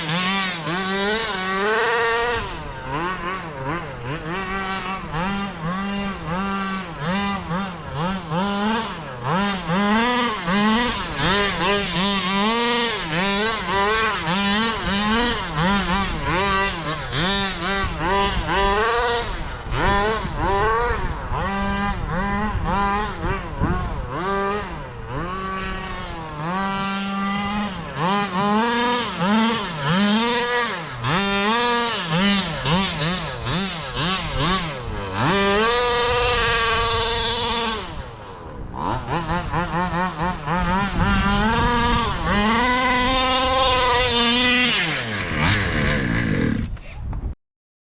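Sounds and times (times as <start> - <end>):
rc buggy engine revving: 0.0 - 47.0.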